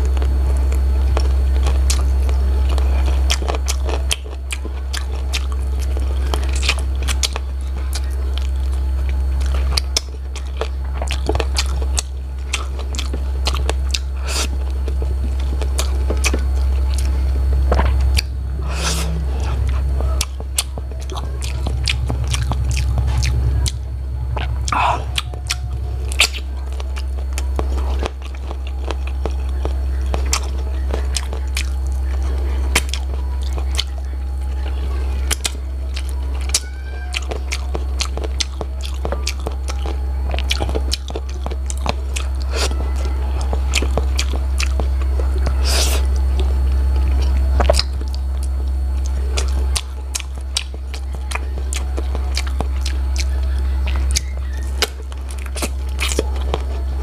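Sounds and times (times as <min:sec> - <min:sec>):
steady low drone: 0:00.0 - 0:57.0
wet chewing and crunching: 0:00.0 - 0:57.0.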